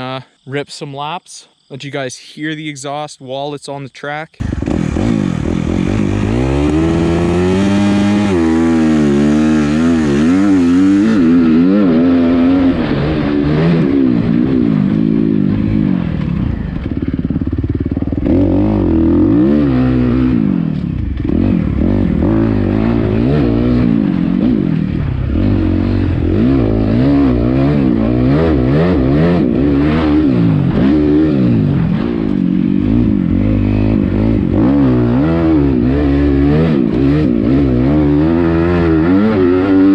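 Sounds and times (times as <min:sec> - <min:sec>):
motocross engine revving: 0:04.4 - 0:39.9.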